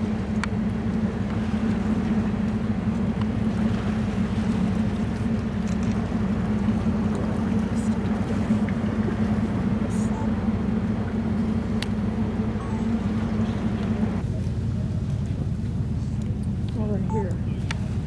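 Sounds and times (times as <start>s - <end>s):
ship machinery hum: 0.0s - 18.0s.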